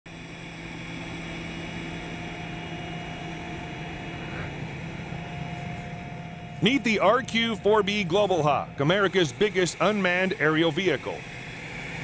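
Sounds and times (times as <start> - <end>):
jet aircraft taxiing: 0.2 - 12.0.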